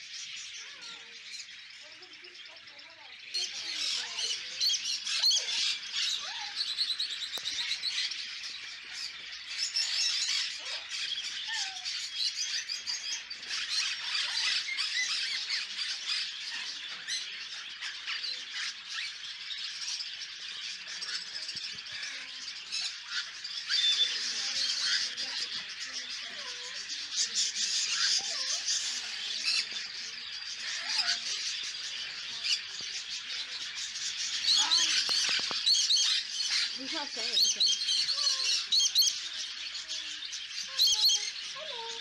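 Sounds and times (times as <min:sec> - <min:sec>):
caged birds chirping and squawking: 0:00.0 - 0:42.0.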